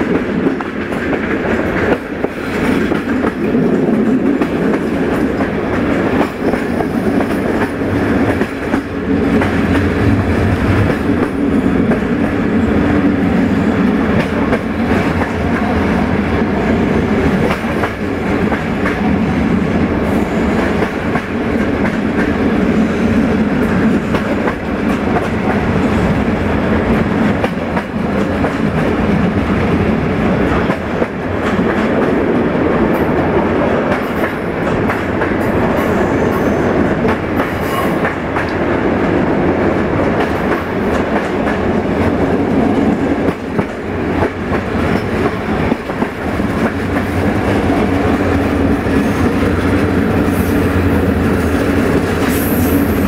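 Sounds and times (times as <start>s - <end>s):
clickety-clack over rail joints: 0.0s - 53.0s
train wheels rumbling on rails: 0.0s - 53.0s.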